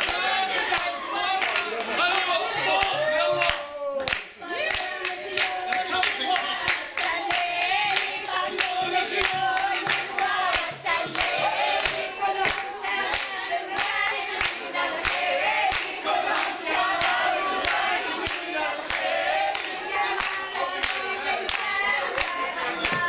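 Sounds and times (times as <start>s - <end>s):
group singing: 0.0s - 23.0s
hands clapping rhythmically: 0.0s - 23.0s.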